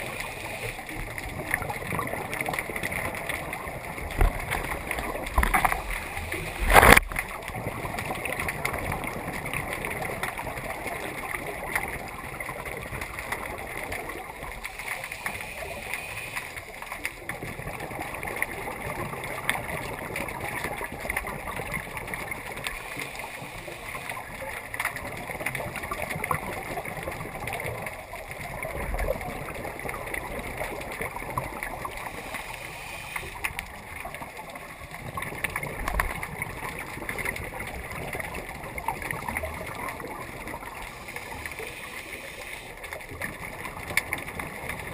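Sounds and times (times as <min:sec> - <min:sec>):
scuba regulator bubbles gurgling: 0:00.0 - 0:44.9
underwater crackle and hiss: 0:00.0 - 0:44.9.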